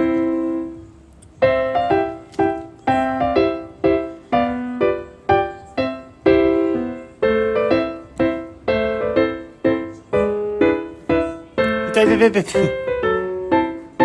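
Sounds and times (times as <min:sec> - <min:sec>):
piano notes: 0:00.0 - 0:14.0.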